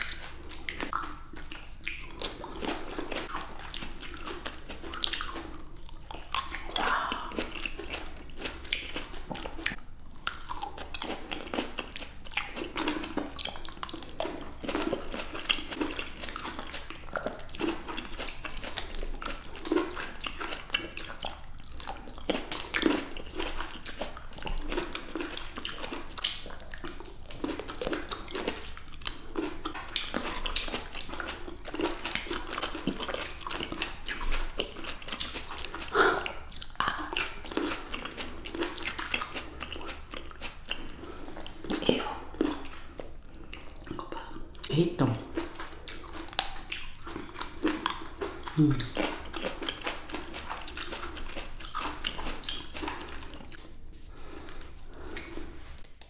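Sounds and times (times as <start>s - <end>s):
people chewing grapes: 0.0s - 56.0s.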